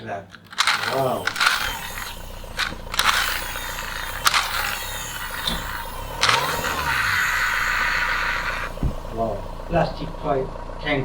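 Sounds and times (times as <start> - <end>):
plastic toy clicks and knocks: 0.0 - 8.9
scraping hiss: 0.5 - 10.4.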